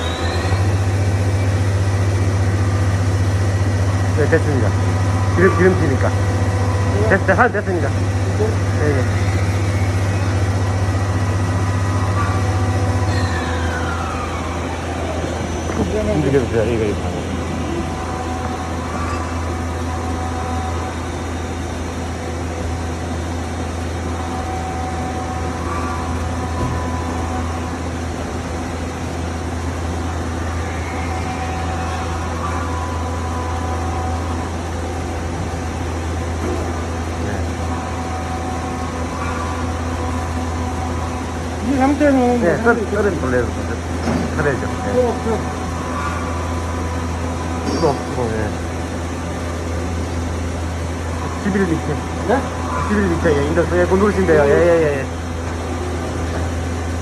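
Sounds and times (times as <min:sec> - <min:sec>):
faint whine falling in pitch: 0:00.0 - 0:57.0
lathe machine hum: 0:00.0 - 0:57.0.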